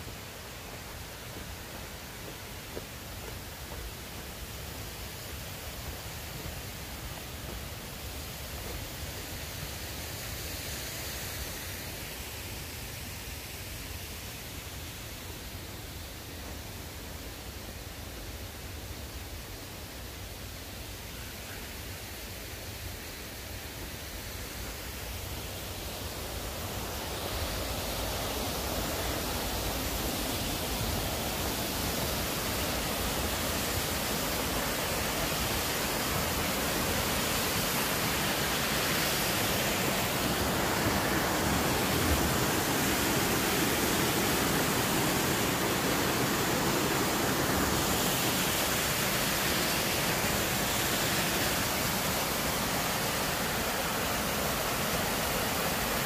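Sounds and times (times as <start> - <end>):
creek water rushing over rocks: 0.0 - 56.0.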